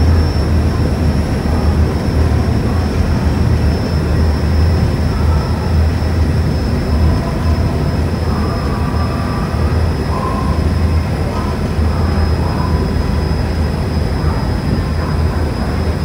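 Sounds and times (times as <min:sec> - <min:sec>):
ferry diesel engine droning: 0:00.0 - 0:16.0.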